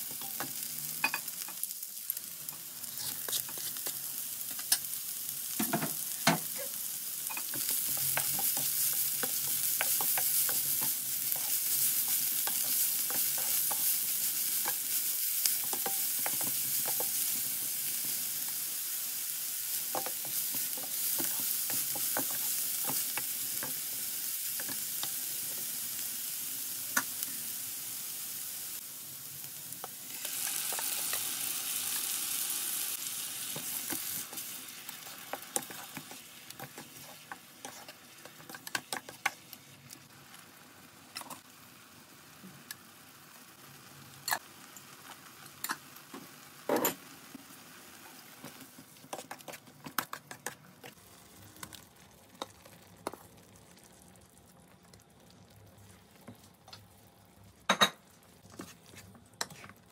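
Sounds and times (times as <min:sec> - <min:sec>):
chilies and garlic sizzling in pan: 0:00.0 - 0:59.9.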